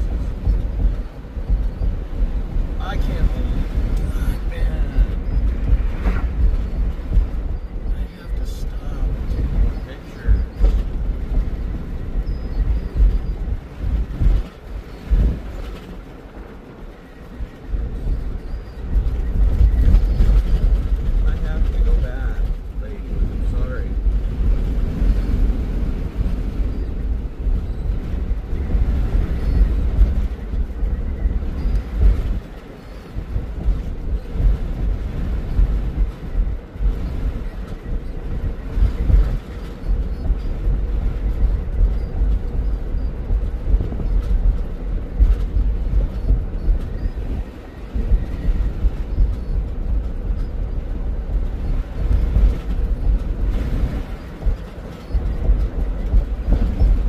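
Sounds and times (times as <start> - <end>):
vehicle road rumble: 0.0 - 57.0.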